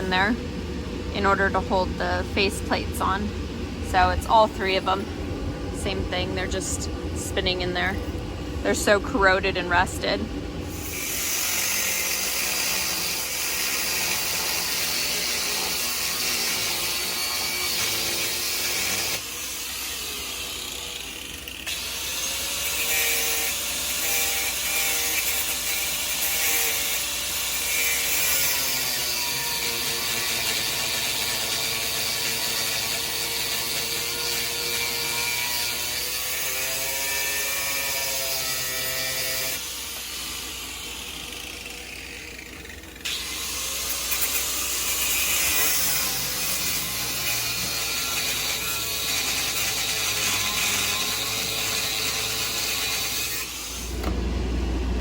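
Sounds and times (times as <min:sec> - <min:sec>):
power grinder cutting metal: 0:10.0 - 0:54.2.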